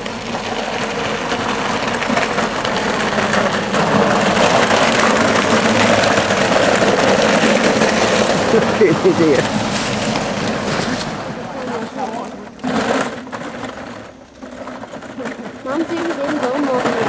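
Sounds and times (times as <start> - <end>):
go-kart engine passing: 0.0 - 17.0.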